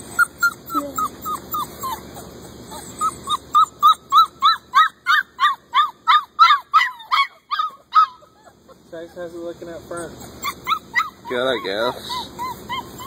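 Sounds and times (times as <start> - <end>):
puppy yipping: 0.0 - 13.0.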